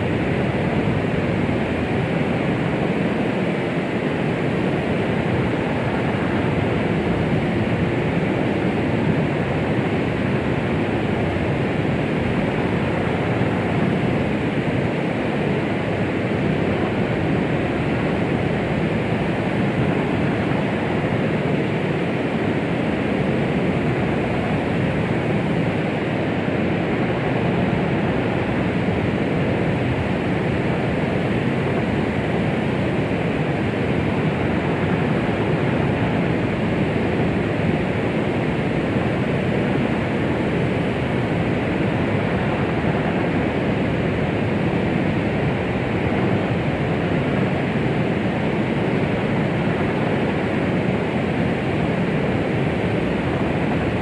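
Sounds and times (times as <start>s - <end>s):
steady white noise shush: 0.0s - 54.0s.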